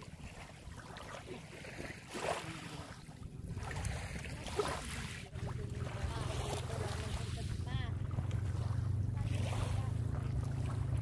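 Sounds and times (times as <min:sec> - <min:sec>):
small waves lapping on sand: 0:00.0 - 0:11.0.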